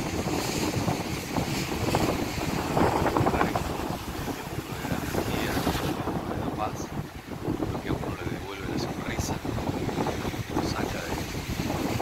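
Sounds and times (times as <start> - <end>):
sea surf breaking on rocks: 0.0 - 12.0
wind buffeting a microphone: 0.0 - 12.0.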